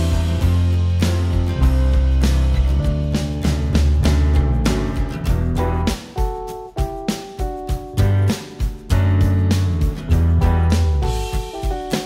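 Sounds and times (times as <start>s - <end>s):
instrumental chords with short hits: 0.0s - 12.0s.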